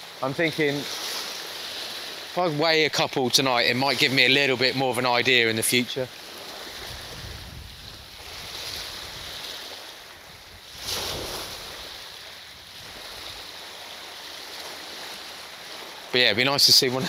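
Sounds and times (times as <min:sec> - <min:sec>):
small waves washing on shore: 0:00.0 - 0:17.0.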